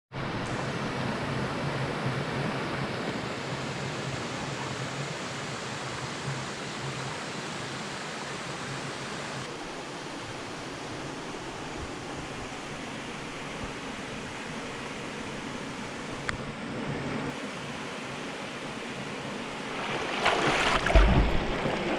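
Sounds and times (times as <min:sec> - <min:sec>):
mountain stream running: 0:00.3 - 0:21.9.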